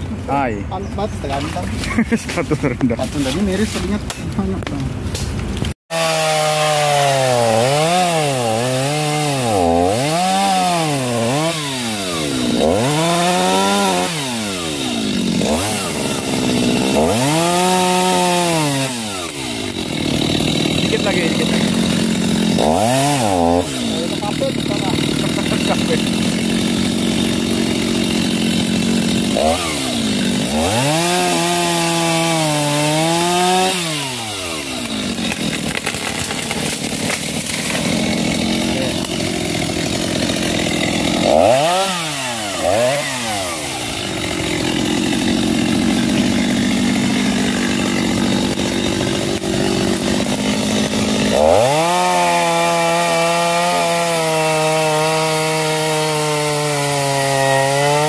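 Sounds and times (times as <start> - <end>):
chainsaw cutting tree trunk: 1.3 - 58.0
chainsaw revving: 5.9 - 58.0.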